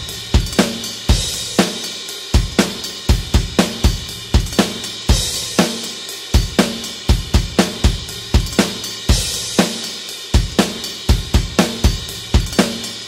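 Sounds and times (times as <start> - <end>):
drum kit rock beat: 0.0 - 13.0.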